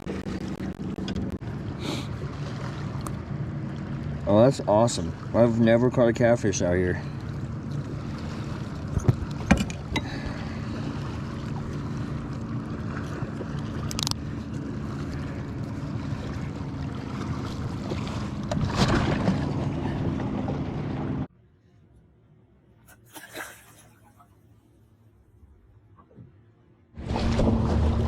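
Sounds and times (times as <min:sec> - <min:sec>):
small boat motor humming: 0:00.0 - 0:28.0.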